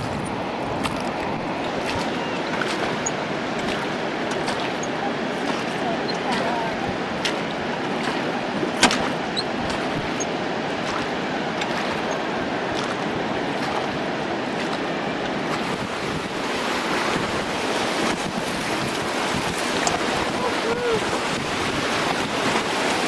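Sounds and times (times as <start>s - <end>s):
whitewater rushing: 0.0s - 23.0s
wind buffeting microphone: 0.0s - 23.0s.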